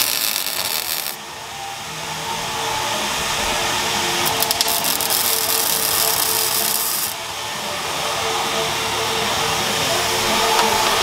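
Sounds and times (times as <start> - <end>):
welder arc crackling and hissing: 0.0 - 1.2, 2.4 - 11.0.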